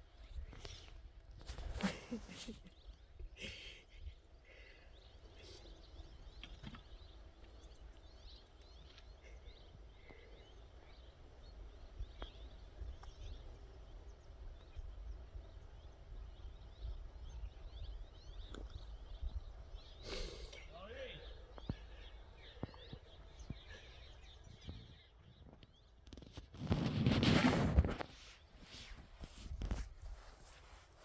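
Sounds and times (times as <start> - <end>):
low wind rumble: 0.0 - 30.4
small birds chirping: 0.0 - 31.0.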